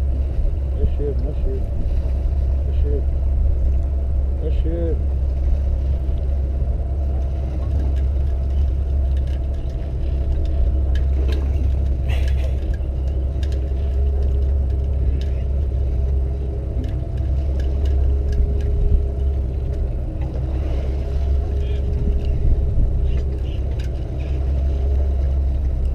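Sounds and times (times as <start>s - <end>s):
boat engine rumbling: 0.0s - 25.9s.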